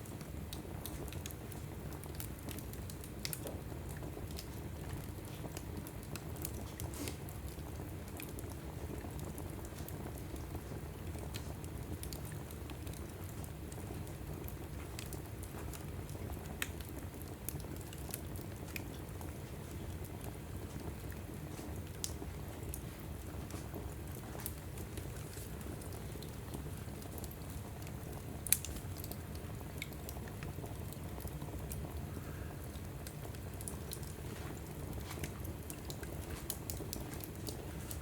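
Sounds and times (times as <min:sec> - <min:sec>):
low fire rumble: 0:00.0 - 0:38.0
wood fire crackling and popping: 0:00.0 - 0:38.0.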